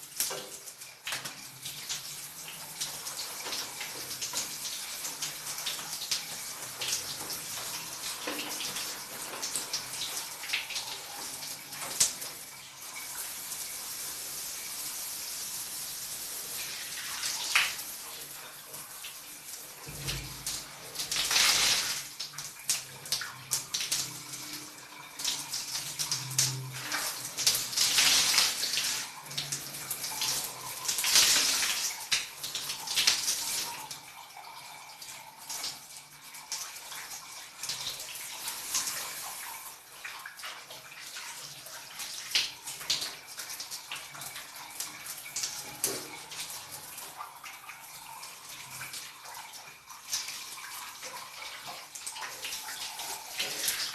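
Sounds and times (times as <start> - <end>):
shower water running and splashing: 0.0 - 53.9.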